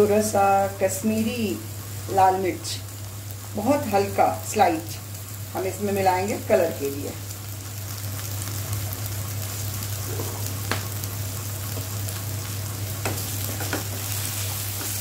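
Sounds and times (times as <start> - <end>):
chickpeas sizzling in oil: 0.0 - 15.0
steady low hum: 0.0 - 15.0.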